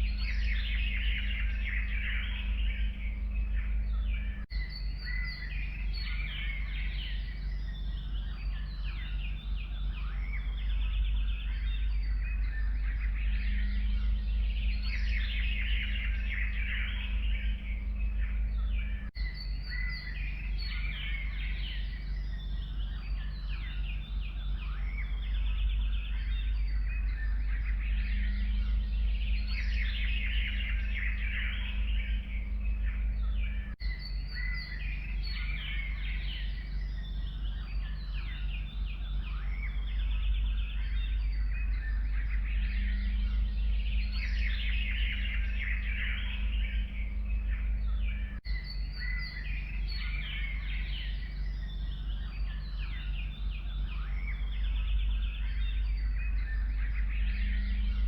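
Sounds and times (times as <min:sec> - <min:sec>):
songbirds chirping and trilling: 0:00.0 - 0:58.0
steady low rumble: 0:00.0 - 0:58.0.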